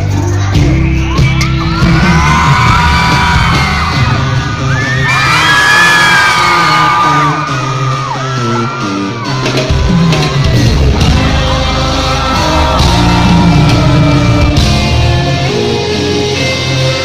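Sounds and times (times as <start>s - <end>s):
amplified live music: 0.0s - 17.0s
heavy bass: 0.0s - 17.0s
person singing: 0.0s - 17.0s.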